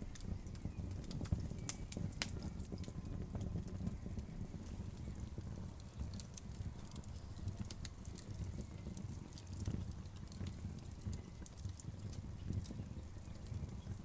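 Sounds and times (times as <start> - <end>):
logs crackling and popping: 0.0 - 14.0
low rumble of fire: 0.0 - 14.0.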